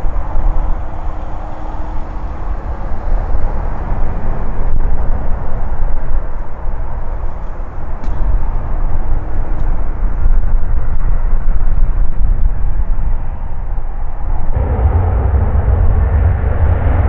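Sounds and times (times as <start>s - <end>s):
jet engines low rumble: 0.0s - 17.0s.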